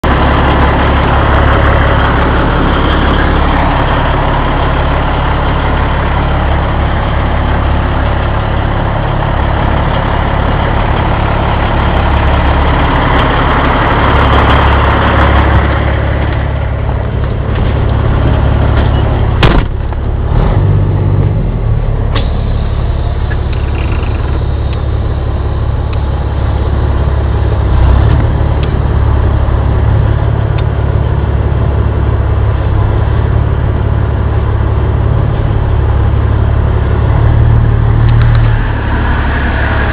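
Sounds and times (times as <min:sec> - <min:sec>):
low motor drone: 0:00.0 - 0:39.9.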